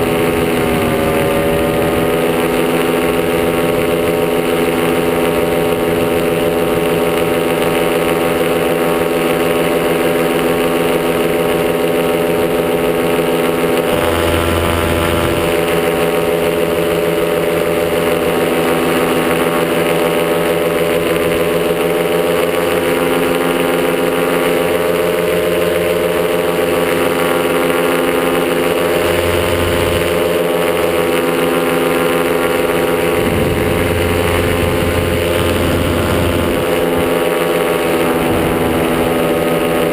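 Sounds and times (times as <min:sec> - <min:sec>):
paramotor engine running: 0:00.0 - 0:39.9.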